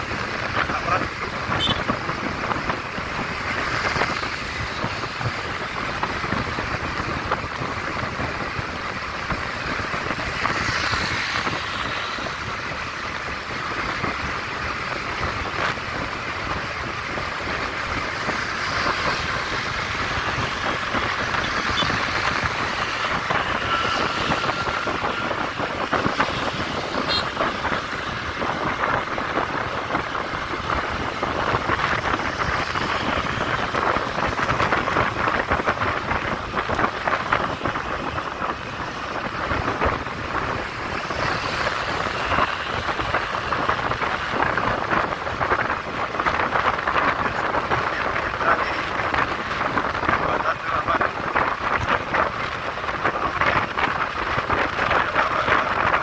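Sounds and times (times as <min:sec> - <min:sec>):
scooter engines running: 0:00.0 - 0:56.0
wind rush over microphone: 0:00.0 - 0:56.0.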